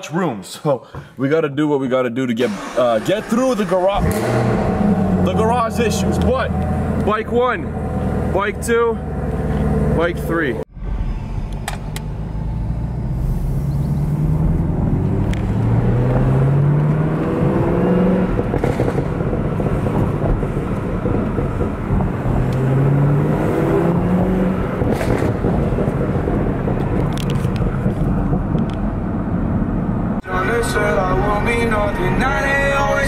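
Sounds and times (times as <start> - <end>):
car engine accelerating: 2.4 - 33.0
road noise: 2.4 - 33.0.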